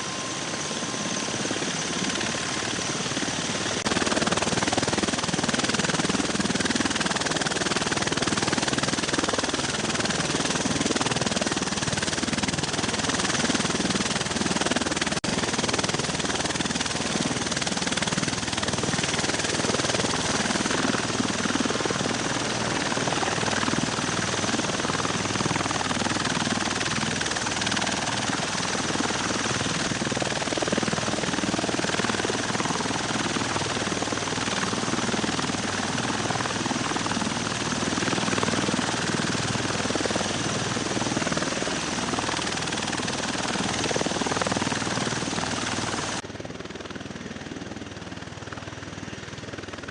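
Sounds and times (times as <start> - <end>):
aircraft rotors and engines running: 0.0 - 49.9.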